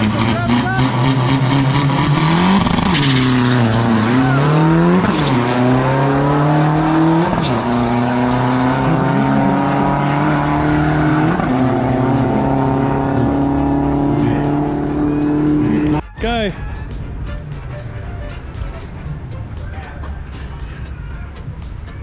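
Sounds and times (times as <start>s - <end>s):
truck engine at full throttle: 0.0s - 16.0s, 16.8s - 22.0s.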